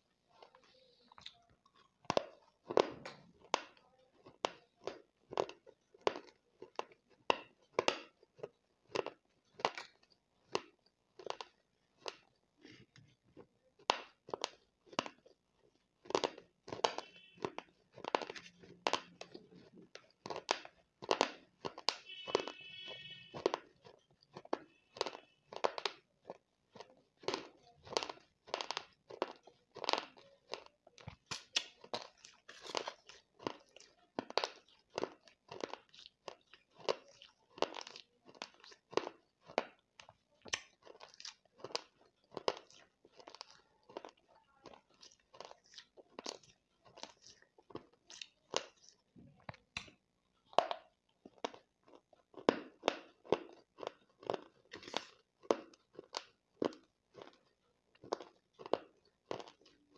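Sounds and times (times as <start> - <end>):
chewing gritty crunches: 0.0 - 59.9.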